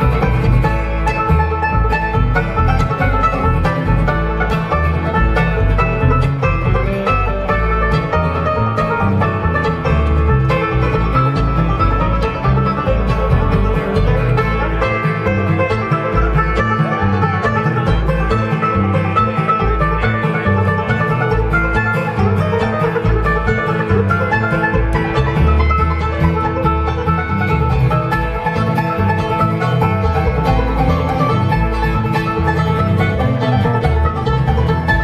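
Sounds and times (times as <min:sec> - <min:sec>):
banjo picking: 0:00.0 - 0:35.0
bluegrass band playing: 0:00.0 - 0:35.0.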